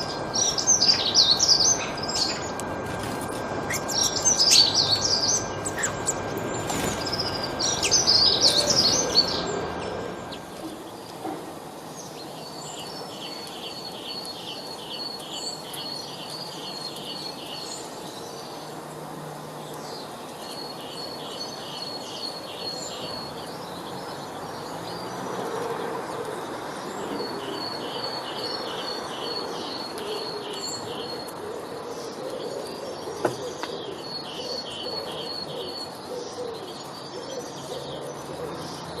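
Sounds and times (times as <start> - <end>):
songbirds chirping: 0.0 - 39.0
steady background hiss: 0.0 - 39.0.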